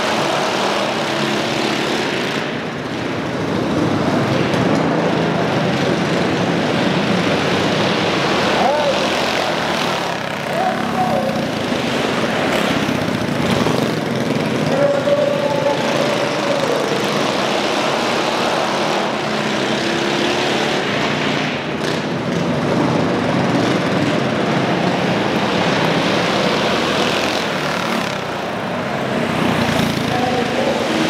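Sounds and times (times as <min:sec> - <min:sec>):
mini bike engines racing: 0:00.0 - 0:31.0.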